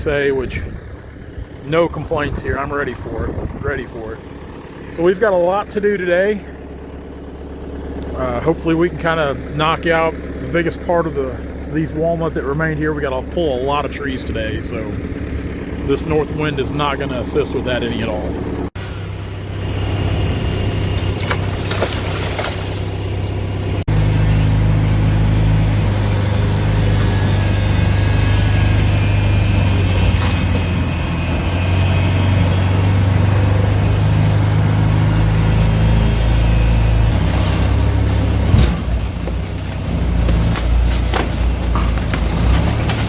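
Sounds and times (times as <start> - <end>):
large engine humming: 0.0 - 43.0.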